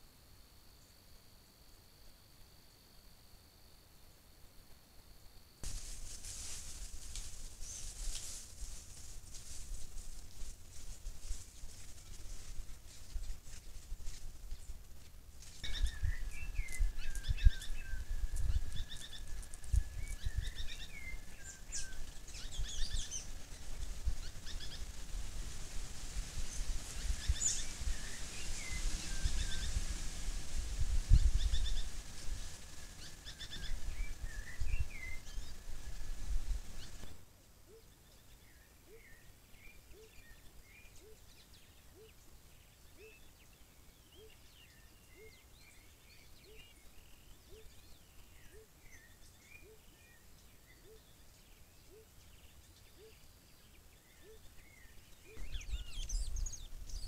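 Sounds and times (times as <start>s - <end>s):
small birds chirping: 5.6s - 57.0s.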